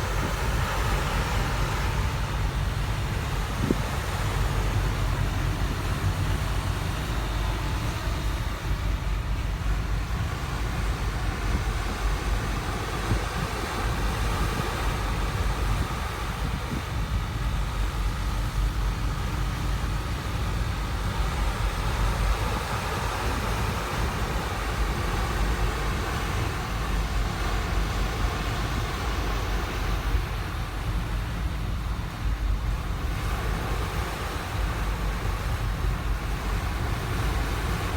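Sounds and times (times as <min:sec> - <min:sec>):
moving ship noise: 0:00.0 - 0:37.9
wind on microphone: 0:00.0 - 0:37.9.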